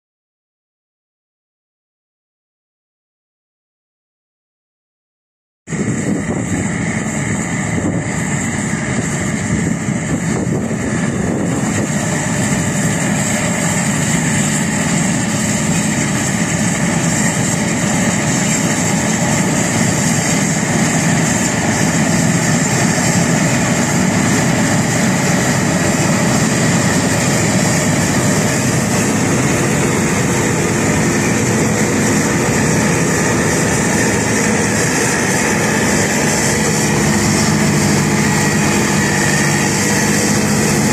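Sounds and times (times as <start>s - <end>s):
combine harvester droning: 5.7s - 40.9s.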